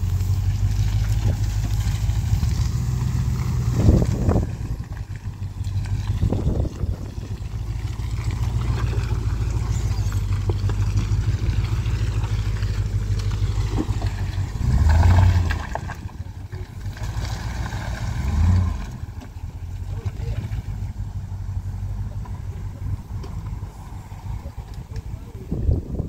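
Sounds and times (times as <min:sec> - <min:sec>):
engine running under load: 0:00.0 - 0:26.0.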